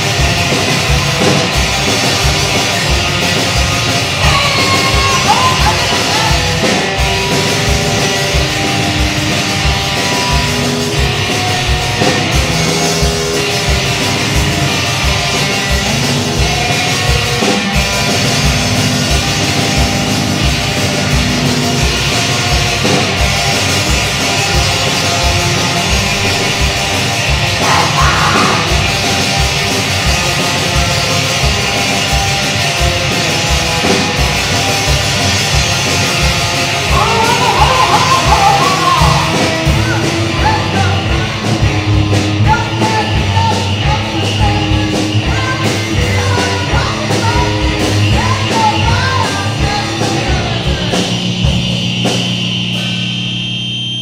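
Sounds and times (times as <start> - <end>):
driving kick-drum beat: 0.0 - 54.0
loud distorted guitar: 0.0 - 54.0.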